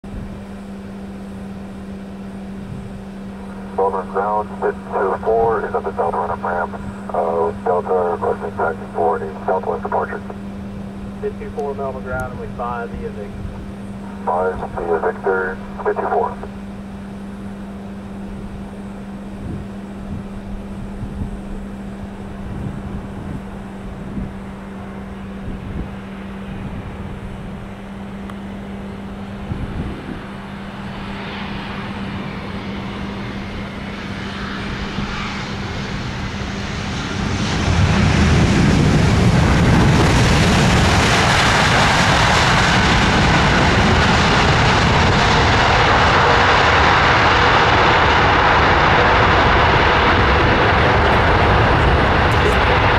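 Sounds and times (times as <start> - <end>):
jet engines roaring: 0.1 - 52.9.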